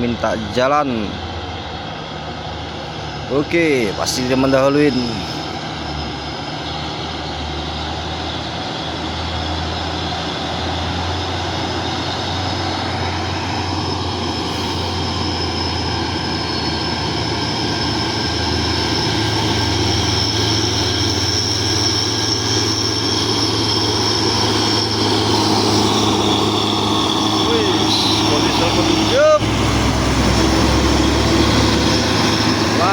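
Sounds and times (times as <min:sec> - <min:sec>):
diesel truck engines droning: 0:00.0 - 0:32.9
thin high whine: 0:02.7 - 0:32.9.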